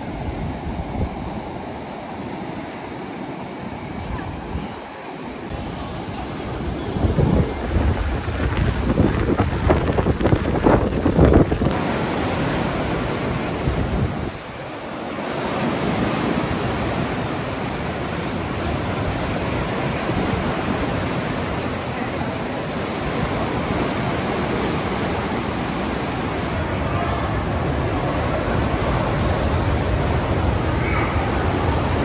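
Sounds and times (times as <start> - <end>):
wind buffeting microphone: 0.0 - 2.4, 3.7 - 32.0
surf breaking on beach: 0.0 - 32.0.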